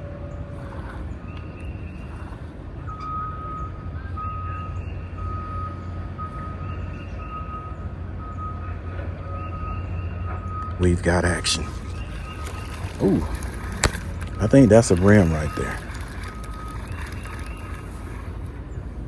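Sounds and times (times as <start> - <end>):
engine rumble: 0.0 - 19.0
reversing alarm beeping: 0.0 - 19.0.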